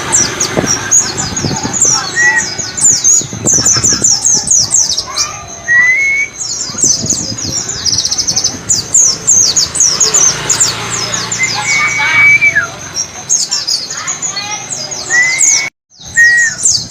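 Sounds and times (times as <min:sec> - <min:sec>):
bird chirping song: 0:00.0 - 0:16.9
bird trill: 0:00.0 - 0:16.9.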